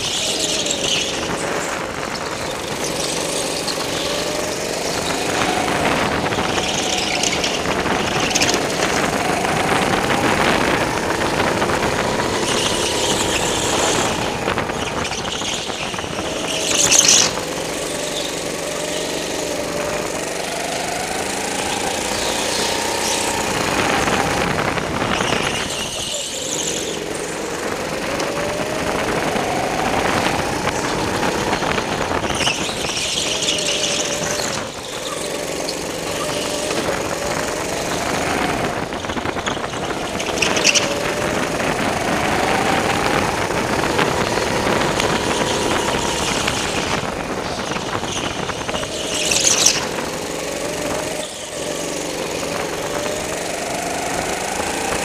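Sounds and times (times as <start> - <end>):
go-kart motor revving: 0.0 - 55.0
tyres squealing: 0.0 - 55.0.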